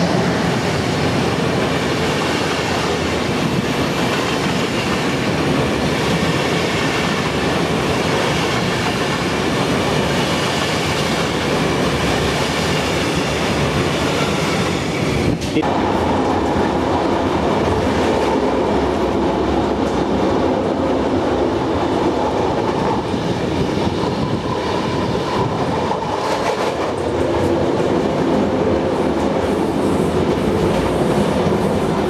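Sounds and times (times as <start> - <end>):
train wheels rolling over rails: 0.0 - 32.0.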